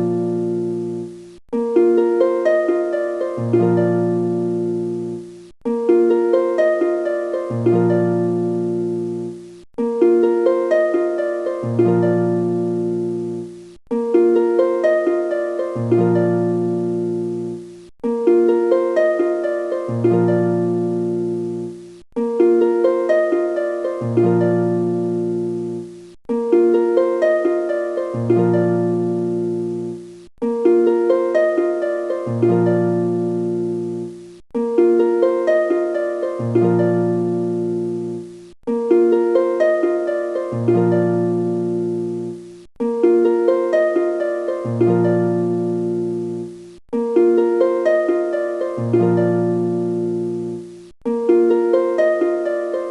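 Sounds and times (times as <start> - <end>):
looping plucked-string phrase: 0.0 - 52.9.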